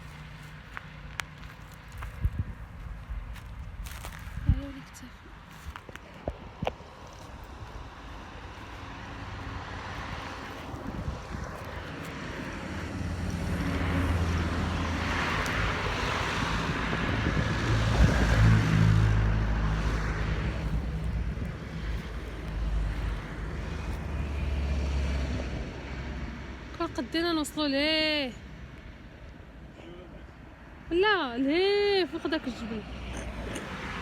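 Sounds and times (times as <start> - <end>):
wind and road noise: 0.0 - 34.0.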